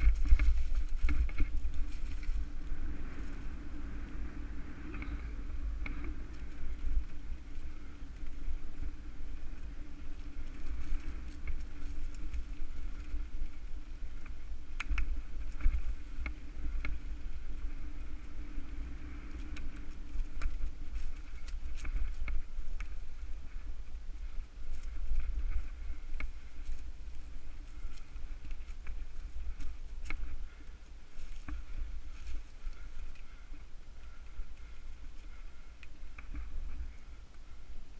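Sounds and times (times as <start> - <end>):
bike clicks and rattles: 0.0 - 37.6
bike tyres rumbling on dirt: 0.0 - 37.9
wind on microphone: 0.0 - 37.9.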